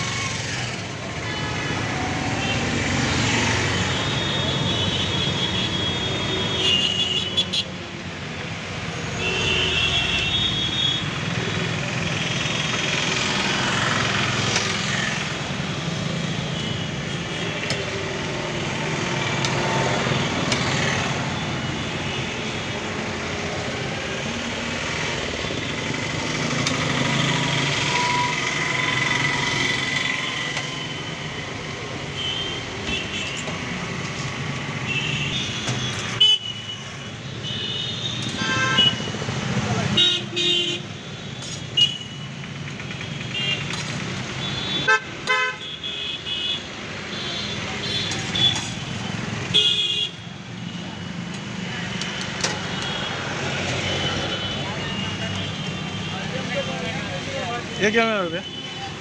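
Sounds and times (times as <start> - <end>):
street traffic: 0.0 - 59.0.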